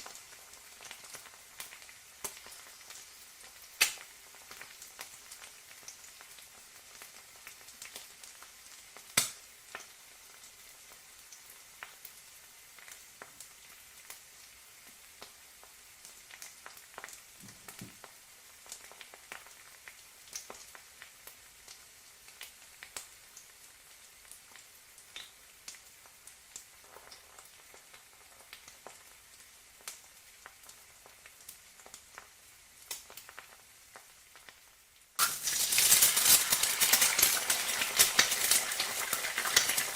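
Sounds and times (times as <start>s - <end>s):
egg sizzling in a pan: 0.0s - 39.9s
sharp crackles and pops: 0.0s - 39.9s.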